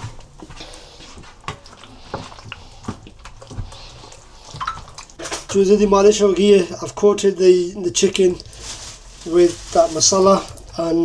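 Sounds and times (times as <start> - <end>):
hands squelching raw chicken: 0.0 - 11.0.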